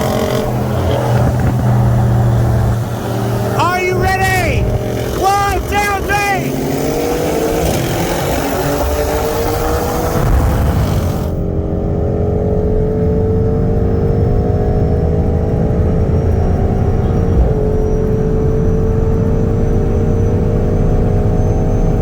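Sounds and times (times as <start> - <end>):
sports car engine at full throttle: 0.0 - 22.0.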